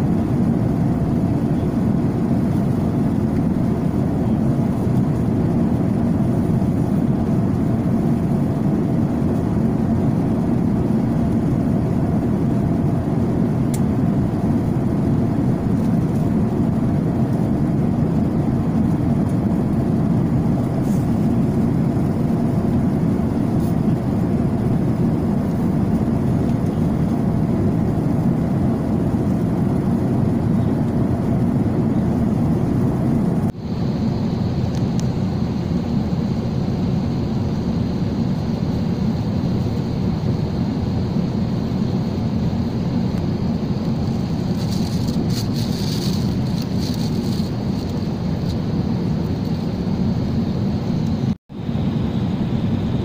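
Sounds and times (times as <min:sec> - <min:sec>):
aircraft cabin engine noise: 0:00.0 - 0:53.0
faint high whine: 0:00.0 - 0:53.0.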